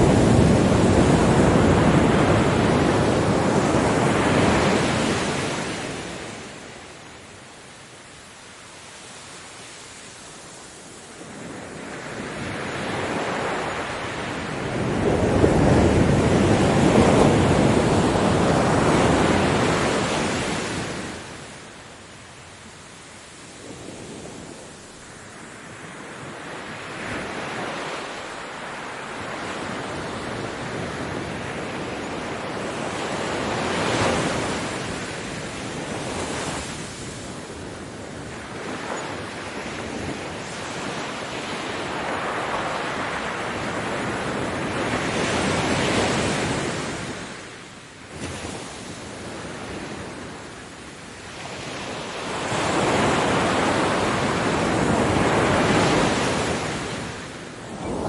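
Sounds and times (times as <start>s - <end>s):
ocean surf breaking: 0.0s - 7.0s, 9.4s - 22.0s, 23.2s - 58.0s.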